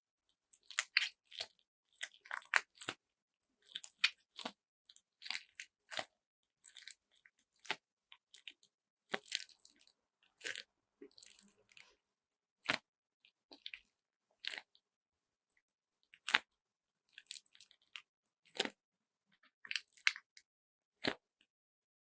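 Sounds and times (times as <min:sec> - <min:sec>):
crunchy slime squishes: 0:00.2 - 0:12.0, 0:12.6 - 0:14.9, 0:15.5 - 0:21.4.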